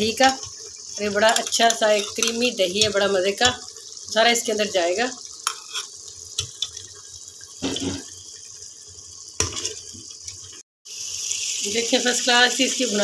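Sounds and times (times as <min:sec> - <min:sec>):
pressure cooker hissing: 0:00.0 - 0:13.0.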